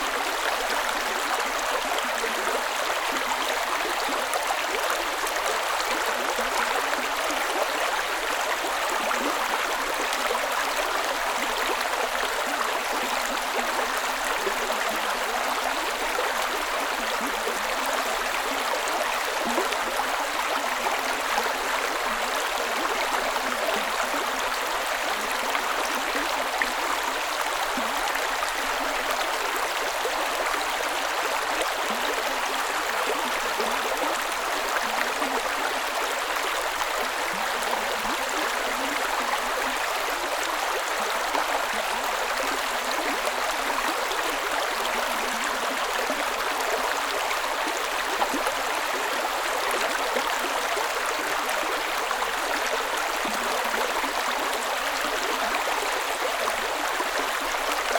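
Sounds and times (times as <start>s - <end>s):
creek water running: 0.0s - 57.9s.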